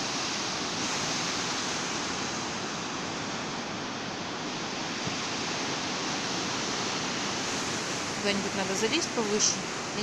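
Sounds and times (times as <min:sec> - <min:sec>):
river current rushing: 0:00.0 - 0:10.0
sea surf: 0:00.0 - 0:10.0.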